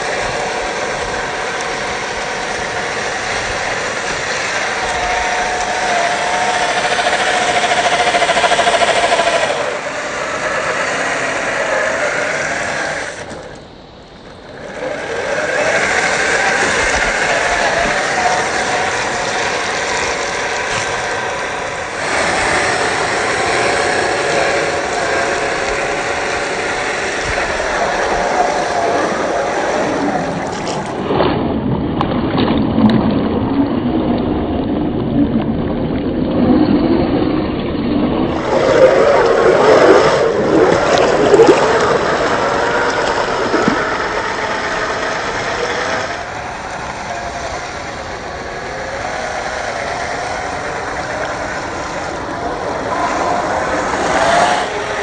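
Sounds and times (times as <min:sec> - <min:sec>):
toy car electric motor whining: 0:00.0 - 0:13.7, 0:14.5 - 0:31.0, 0:38.3 - 0:55.0.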